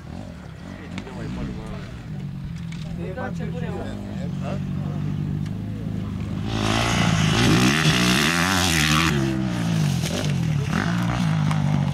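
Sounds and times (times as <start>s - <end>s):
dirt bike engine revving: 0.0s - 11.9s.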